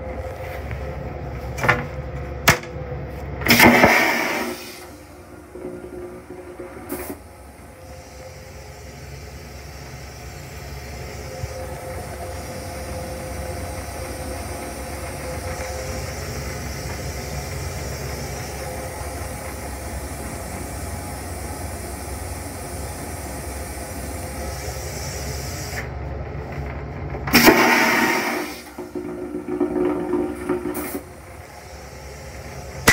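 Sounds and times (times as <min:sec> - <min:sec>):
railcar rumble and hiss: 0:00.0 - 0:32.9.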